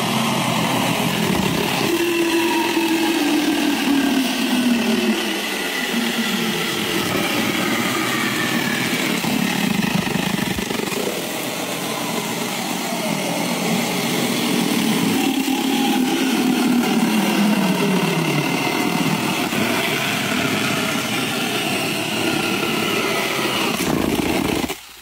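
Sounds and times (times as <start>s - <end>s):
electric chainsaw cutting wood: 0.0s - 25.0s.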